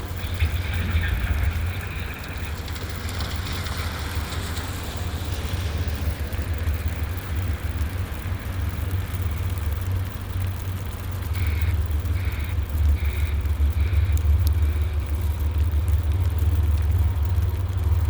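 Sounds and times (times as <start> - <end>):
constant low rumble: 0.0 - 18.0
sleet and rain hissing: 0.0 - 18.0.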